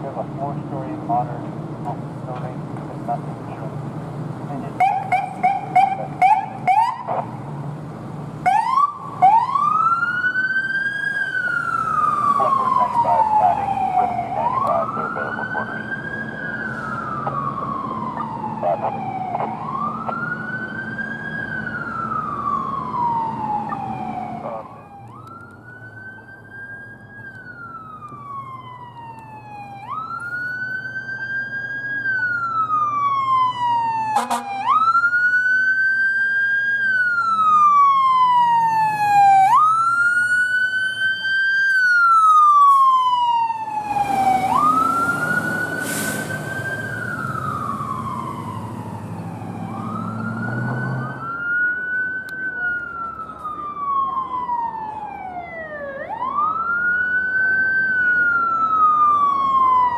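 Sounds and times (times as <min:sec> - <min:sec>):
emergency siren wailing: 0:00.0 - 0:07.6, 0:08.4 - 0:59.9
vehicle engine: 0:00.0 - 0:59.9.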